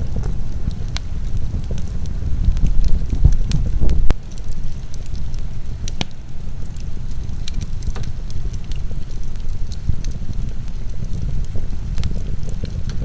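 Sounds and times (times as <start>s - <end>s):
heavy rain rumble: 0.0s - 13.0s
sharp fire pops: 0.0s - 13.0s
wood fire crackling: 0.0s - 13.0s.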